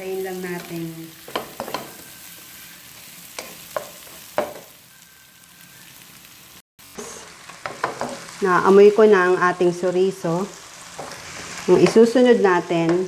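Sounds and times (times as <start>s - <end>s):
sausage sizzling in a pan: 0.0s - 13.0s.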